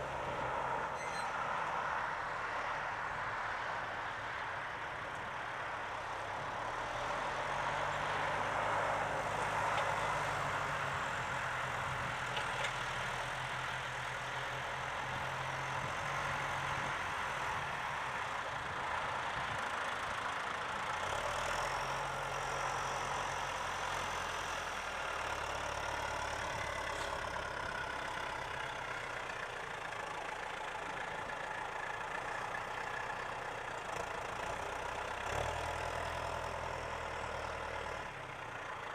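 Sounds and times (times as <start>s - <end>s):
tractor diesel engine running: 5.0s - 38.9s.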